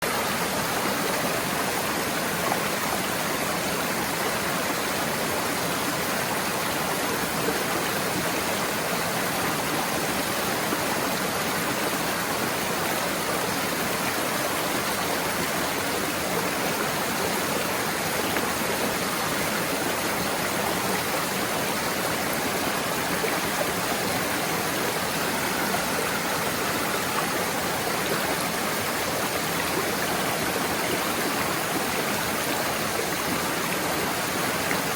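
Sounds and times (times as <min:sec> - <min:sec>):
waterfall and stream rushing: 0:00.0 - 0:34.9.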